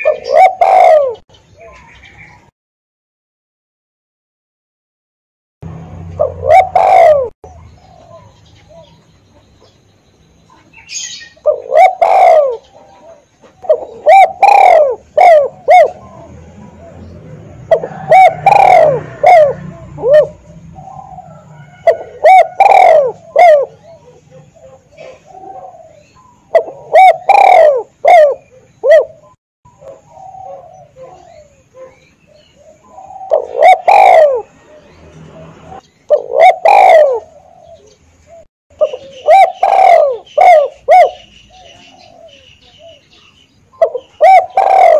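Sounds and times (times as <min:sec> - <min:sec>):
dove cooing: 0:00.0 - 0:02.4, 0:06.1 - 0:09.4, 0:10.6 - 0:44.9.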